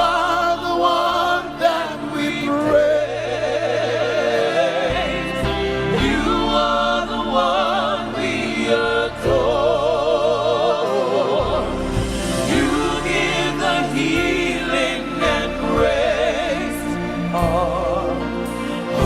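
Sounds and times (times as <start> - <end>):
choir singing: 0.0 - 19.0
instrumental accompaniment: 0.0 - 19.0
voices singing with vibrato: 0.0 - 19.0.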